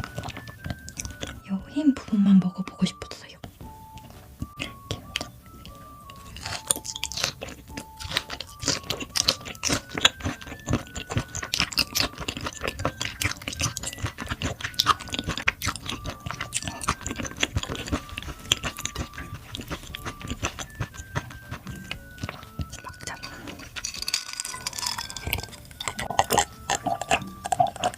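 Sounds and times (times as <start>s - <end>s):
person chewing food: 0.0s - 1.5s, 3.4s - 27.9s.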